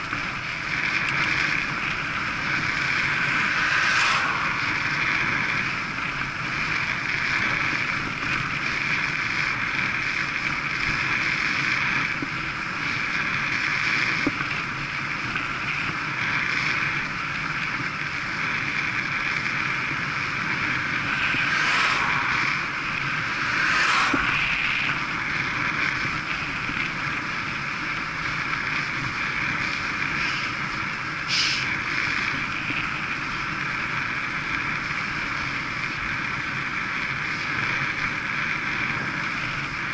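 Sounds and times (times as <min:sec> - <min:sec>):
bike tyre noise on tarmac: 0:00.0 - 0:39.9
wind rushing over microphone: 0:00.0 - 0:39.9.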